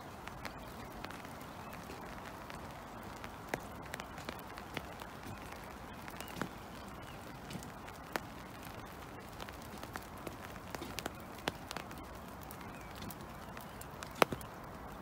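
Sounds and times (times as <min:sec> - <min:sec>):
footsteps on wet wooden boardwalk: 0:00.0 - 0:15.0
rain falling: 0:00.0 - 0:15.0.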